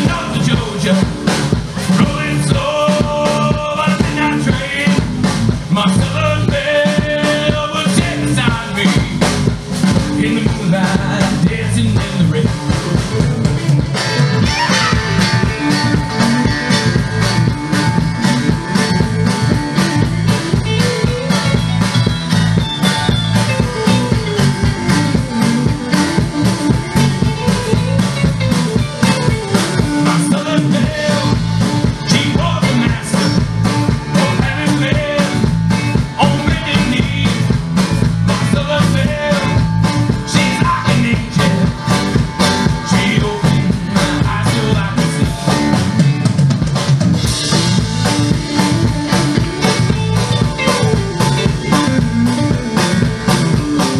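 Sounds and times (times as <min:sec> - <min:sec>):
country-rock band playing: 0:00.0 - 0:53.9.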